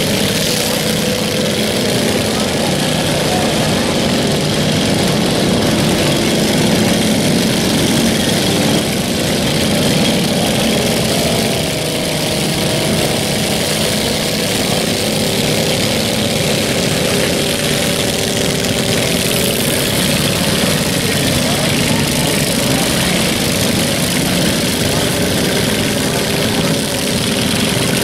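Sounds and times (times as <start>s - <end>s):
riding lawn mower engines running: 0.0s - 28.0s.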